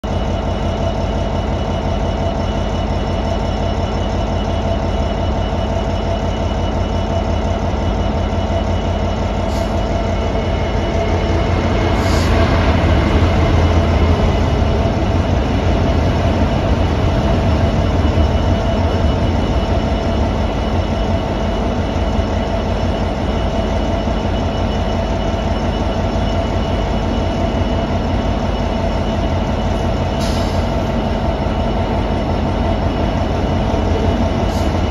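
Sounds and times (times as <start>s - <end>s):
diesel locomotive engine droning: 0.0s - 34.9s
trains passing: 0.0s - 34.9s.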